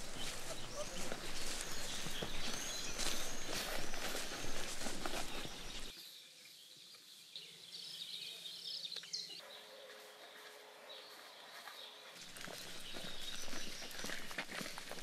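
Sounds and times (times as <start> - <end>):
footsteps through grass: 0.0 - 7.6, 9.4 - 15.0
bird chirps: 0.0 - 15.0.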